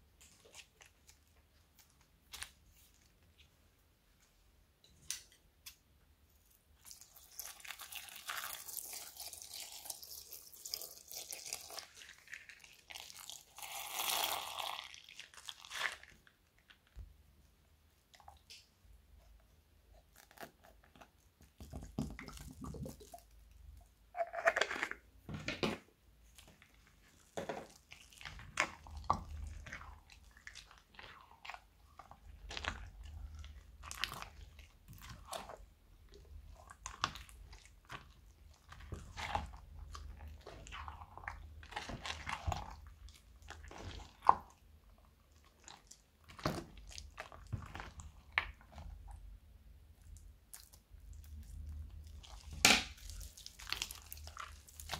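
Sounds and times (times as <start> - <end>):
spatula stirring squelching slime: 0.0 - 25.3, 25.9 - 54.9.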